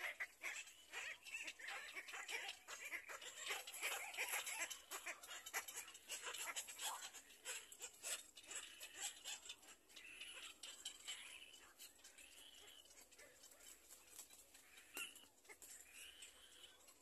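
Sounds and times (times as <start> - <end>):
heron chicks begging calls: 0.0 - 17.0.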